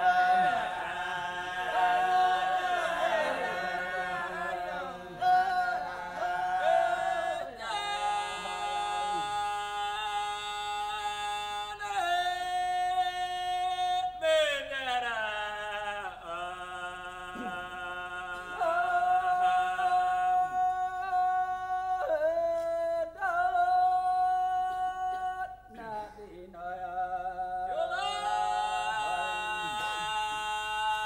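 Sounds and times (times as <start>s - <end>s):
men singing unaccompanied: 0.0s - 31.0s.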